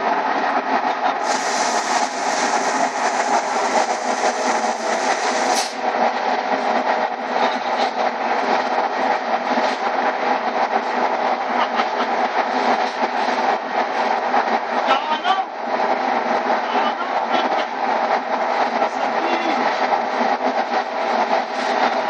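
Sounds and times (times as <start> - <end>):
belt conveyor running: 0.0 - 22.0.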